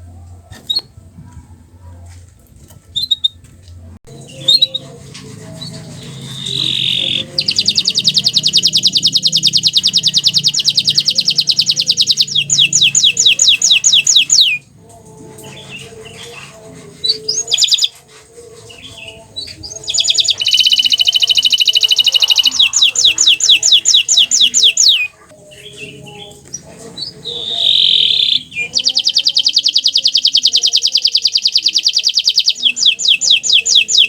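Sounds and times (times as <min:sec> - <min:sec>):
canary singing: 0:02.9 - 0:03.4, 0:04.0 - 0:34.0.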